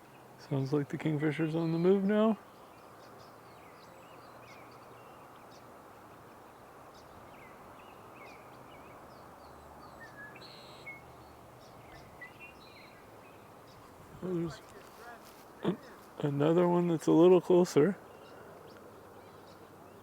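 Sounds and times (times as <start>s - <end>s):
small birds chirping: 0.0s - 20.0s
steady outdoor background hiss: 0.0s - 20.0s.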